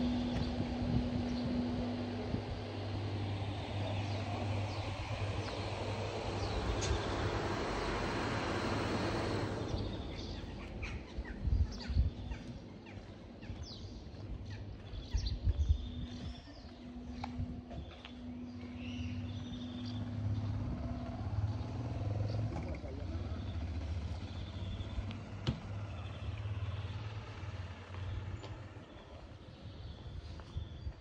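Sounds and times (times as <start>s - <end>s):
birds chirping: 0.0s - 31.0s
mechanical hum with rushing: 0.0s - 31.0s.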